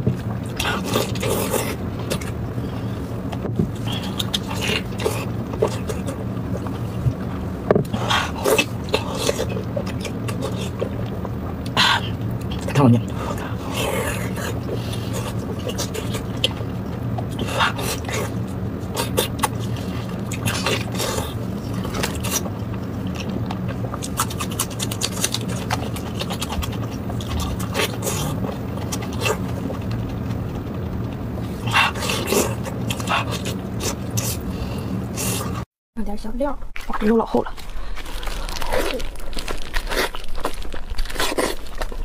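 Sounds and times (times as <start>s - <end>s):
wet chewing: 0.0s - 35.7s, 36.8s - 42.0s
steady low hum: 0.0s - 42.0s.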